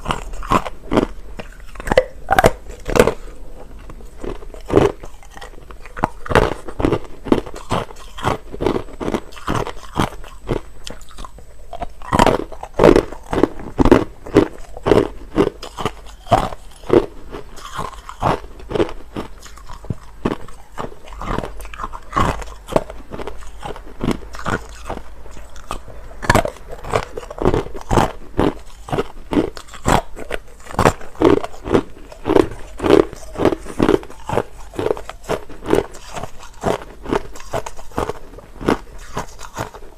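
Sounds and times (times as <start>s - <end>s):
crunching ice being chewed: 0.0s - 39.9s.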